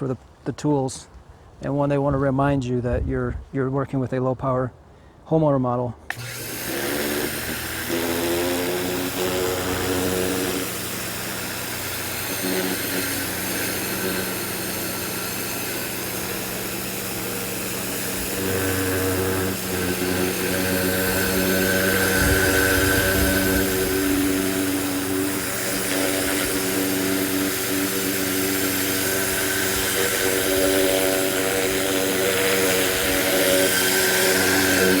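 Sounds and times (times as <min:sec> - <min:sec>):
pressure washer motor hum: 0:06.1 - 0:35.0
water jet hissing: 0:06.1 - 0:35.0.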